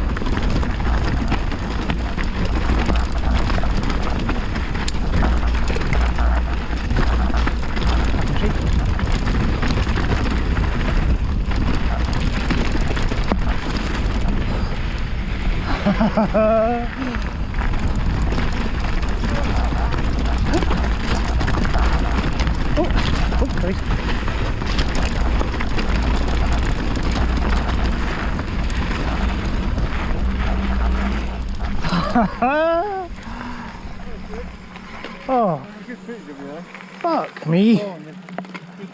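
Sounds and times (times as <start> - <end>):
bike clattering: 0.0 - 38.9
bike tyres crunching over gravel: 0.0 - 38.9
low rumble: 0.0 - 38.9.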